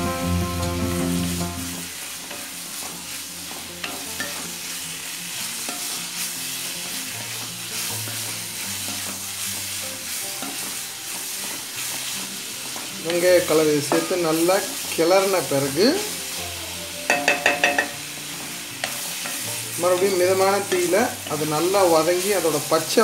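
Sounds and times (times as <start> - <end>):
background music: 0.0 - 23.0
vegetables sizzling in a pan: 0.0 - 23.0.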